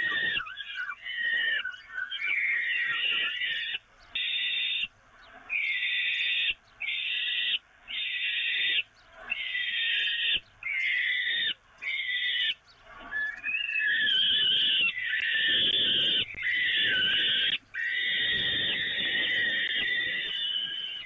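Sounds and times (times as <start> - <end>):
falcon chicks screeching: 0.0 - 21.0.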